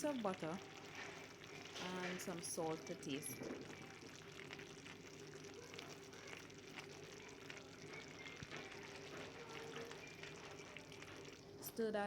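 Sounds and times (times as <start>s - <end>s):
pot bubbling and sizzling: 0.0s - 12.0s.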